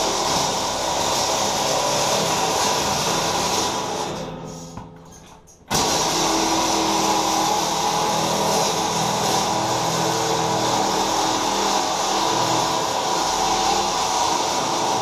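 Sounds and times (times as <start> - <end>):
electric arc welding: 0.0 - 4.2, 5.7 - 15.0.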